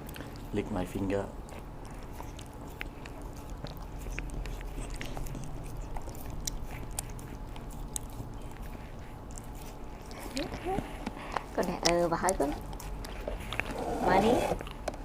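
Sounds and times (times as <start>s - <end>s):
dog chewing vegetables: 0.0s - 15.0s
small clicking mouth sounds: 1.4s - 13.7s.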